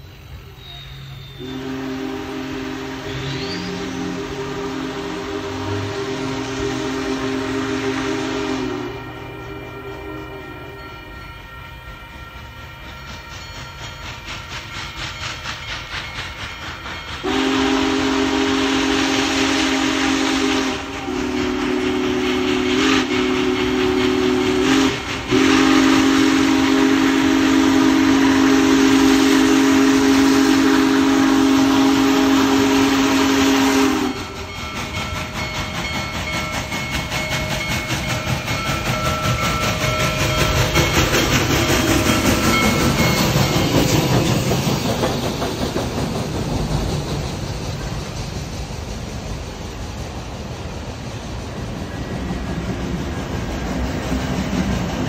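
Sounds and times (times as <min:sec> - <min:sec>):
steam locomotive chime whistle: 0:00.0 - 0:50.0, 0:51.3 - 0:55.0
steam hissing from cylinders: 0:00.0 - 0:55.0.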